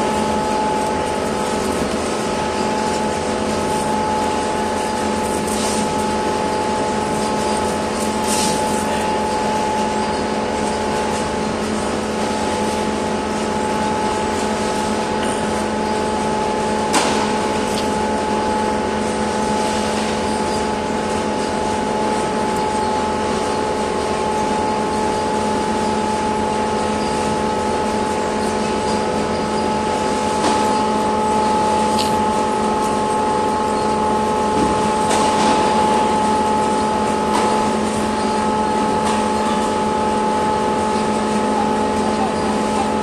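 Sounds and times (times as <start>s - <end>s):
machine humming: 0.0s - 43.0s.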